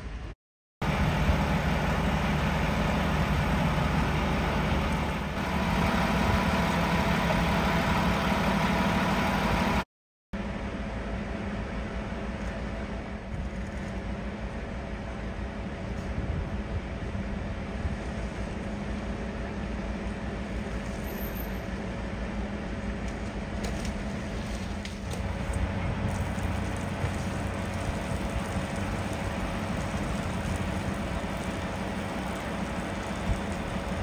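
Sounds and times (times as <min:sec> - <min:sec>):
fire engine running: 0:00.0 - 0:09.8, 0:10.4 - 0:34.0.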